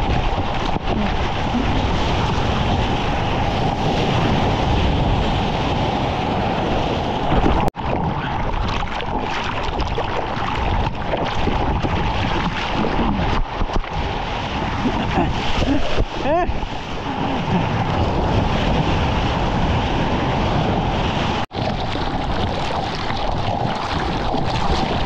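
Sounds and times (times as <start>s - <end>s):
ocean surf and churning water: 0.0s - 25.0s
wind buffeting the microphone: 0.0s - 25.0s.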